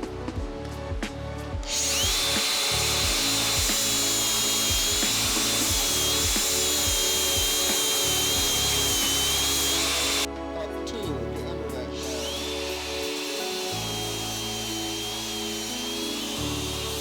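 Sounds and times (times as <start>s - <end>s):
background music with a beat: 0.0s - 17.0s
angle grinder grinding metal: 1.7s - 10.3s, 12.0s - 17.0s.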